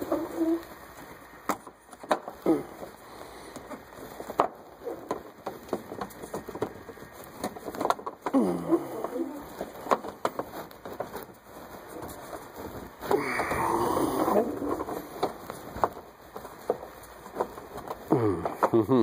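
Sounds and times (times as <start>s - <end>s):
plastic rubbing and scraping: 0.0s - 19.0s.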